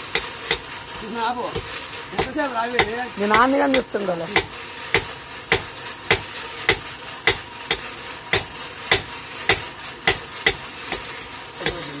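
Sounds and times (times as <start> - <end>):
hammer striking metal sheet: 1.5 - 12.0.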